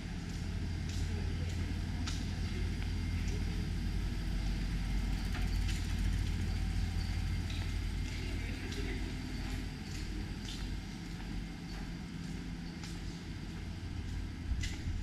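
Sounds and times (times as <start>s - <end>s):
low rumble of street ambience: 0.0s - 15.0s.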